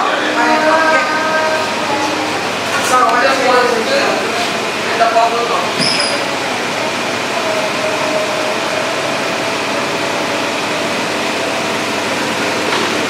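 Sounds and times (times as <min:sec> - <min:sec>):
fridge fan whooshing hum: 0:00.0 - 0:13.0.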